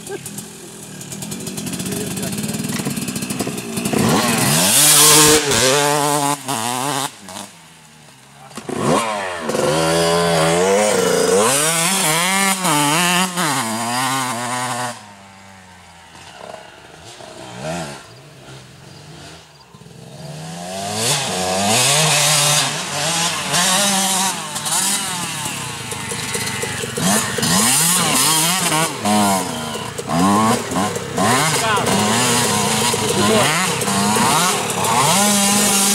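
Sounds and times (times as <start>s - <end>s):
dirt bike engines revving: 0.0s - 35.9s.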